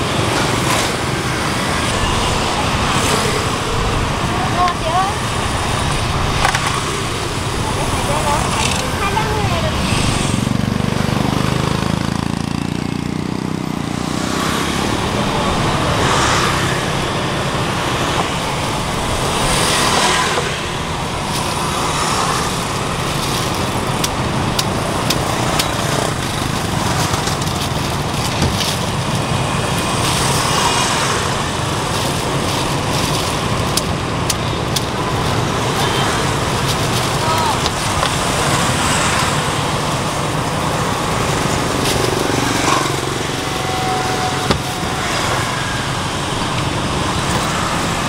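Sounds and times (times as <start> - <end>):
motorbikes passing: 0.0 - 48.0.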